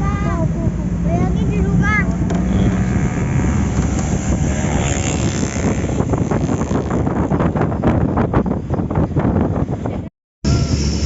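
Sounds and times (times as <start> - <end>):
road noise: 0.0 - 11.0
vehicle engine: 0.0 - 11.0
wind buffeting microphone: 0.0 - 11.0.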